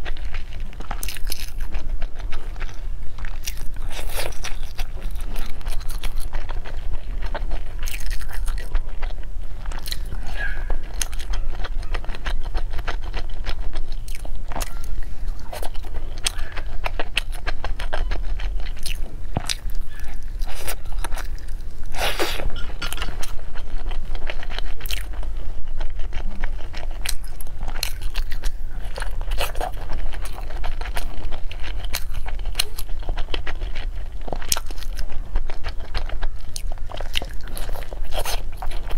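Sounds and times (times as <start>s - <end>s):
person biting and chewing: 0.0s - 38.9s.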